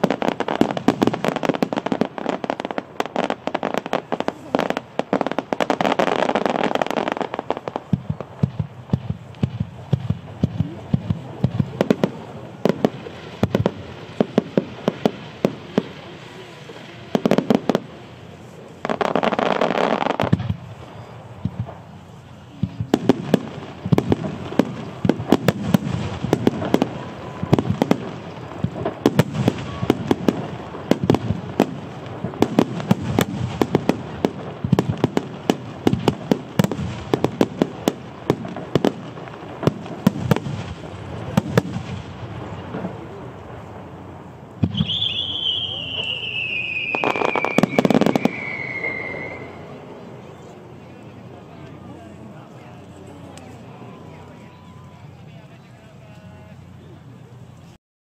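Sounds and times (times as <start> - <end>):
fireworks barrage bangs: 0.0 - 51.6.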